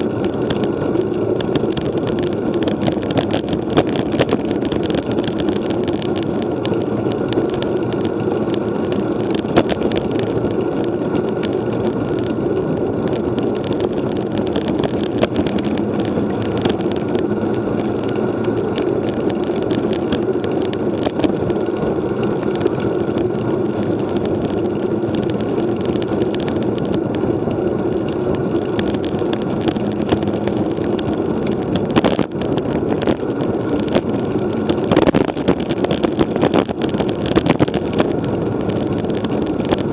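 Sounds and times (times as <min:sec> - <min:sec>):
small clicks and rattles: 0:00.0 - 0:39.9
wind and road noise from bike: 0:00.0 - 0:39.9.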